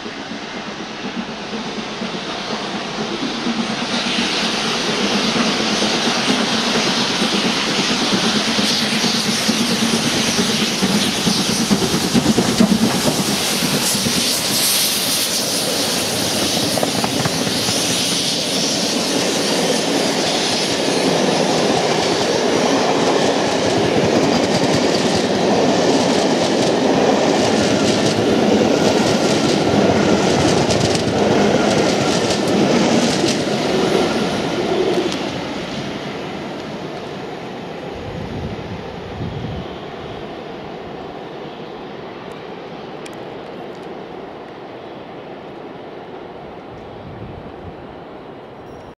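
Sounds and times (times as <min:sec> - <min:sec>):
passenger train rushing past: 0:00.0 - 0:48.9.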